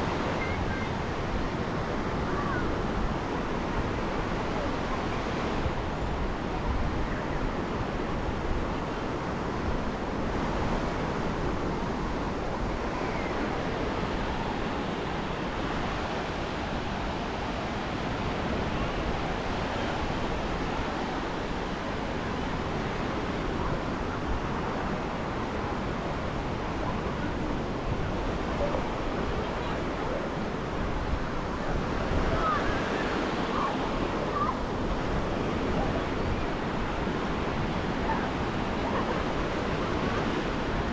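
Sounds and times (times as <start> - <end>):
surf waves breaking: 0.0 - 40.9
wind buffeting microphone: 0.0 - 40.9.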